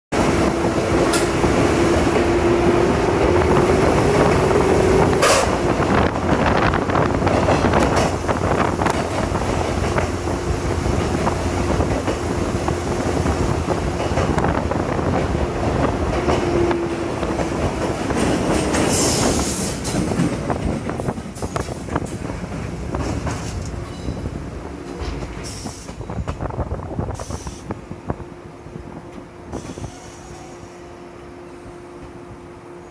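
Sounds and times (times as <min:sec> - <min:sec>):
train running noise: 0:00.1 - 0:32.9.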